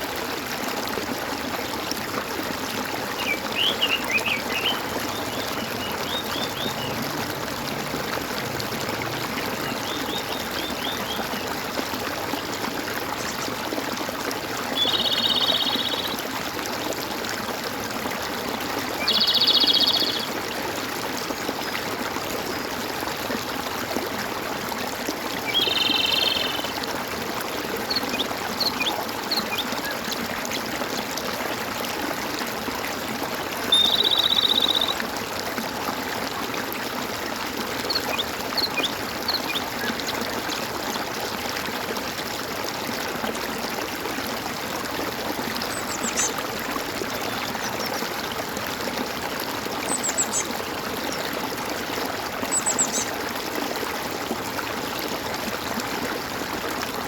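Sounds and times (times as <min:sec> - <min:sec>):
water gurgling and trickling: 0:00.0 - 0:57.0.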